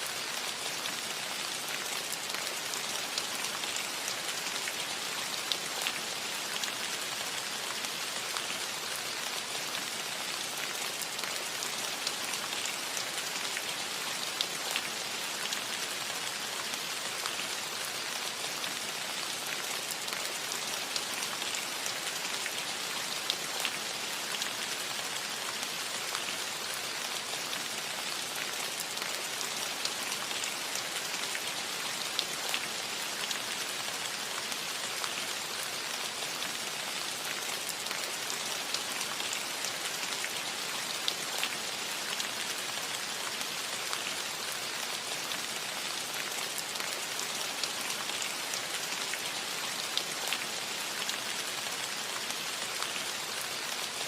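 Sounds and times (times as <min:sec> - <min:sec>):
steady rain on a roof: 0:00.0 - 0:54.0.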